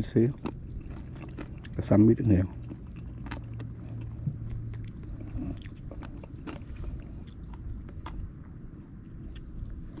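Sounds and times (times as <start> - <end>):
crunchy chewing: 0.0 - 10.0
steady low rumble: 0.0 - 10.0.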